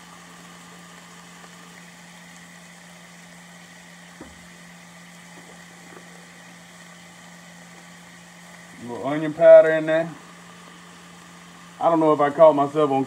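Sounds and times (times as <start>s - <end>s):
steady low hum: 0.0s - 13.0s
vegetables sizzling in butter: 0.0s - 13.0s.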